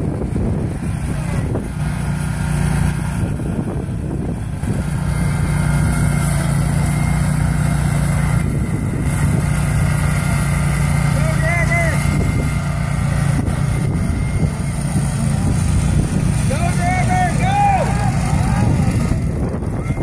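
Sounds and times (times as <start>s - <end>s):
riding mower engines droning: 0.0s - 20.0s.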